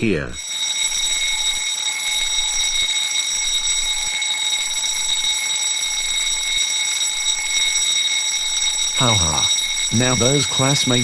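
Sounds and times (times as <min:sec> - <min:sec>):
fire alarm tone: 0:00.3 - 0:11.0.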